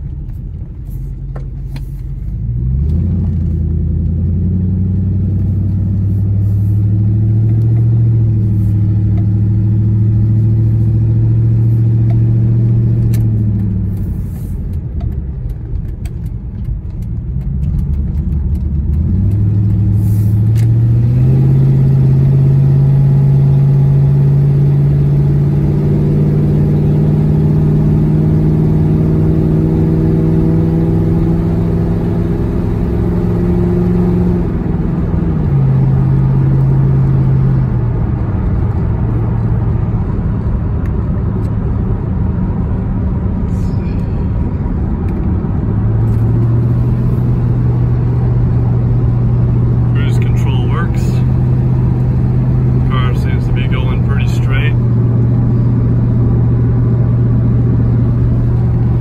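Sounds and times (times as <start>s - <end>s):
car engine drone from cabin: 0.0s - 59.0s.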